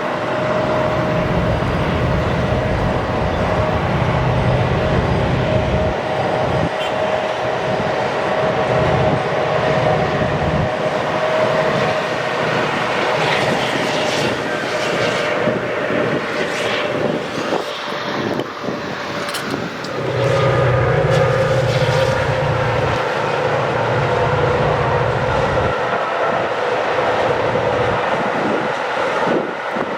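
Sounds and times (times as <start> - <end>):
diesel engine rumble: 0.0 - 29.9
train rolling noise: 0.0 - 29.9.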